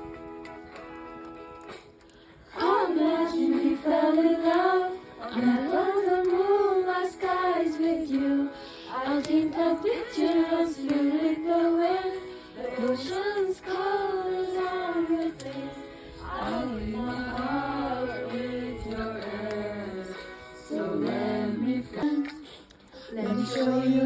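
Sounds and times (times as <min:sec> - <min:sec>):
song with sung melody: 0:00.0 - 0:24.0.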